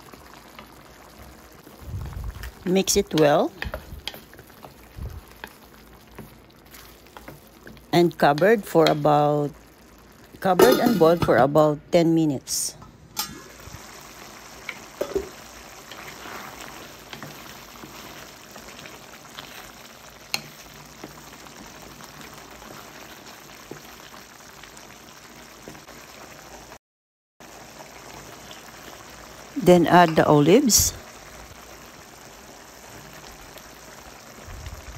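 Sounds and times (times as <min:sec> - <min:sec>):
stew bubbling in a pot: 0:00.0 - 0:11.7, 0:13.2 - 0:26.8, 0:27.4 - 0:34.9.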